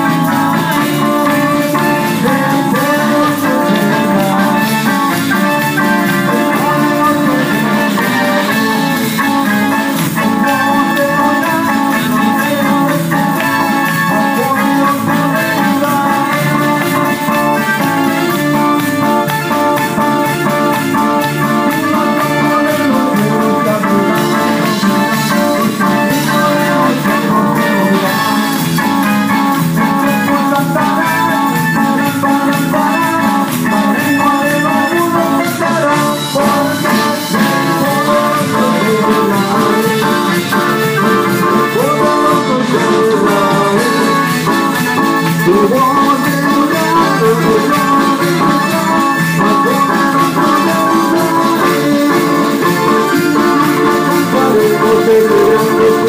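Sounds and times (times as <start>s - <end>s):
church band playing worship song: 0.0s - 56.0s.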